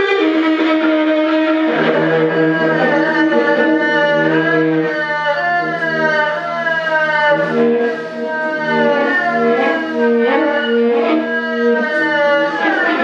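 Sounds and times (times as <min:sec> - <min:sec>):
bowed string instrument: 0:00.0 - 0:13.0.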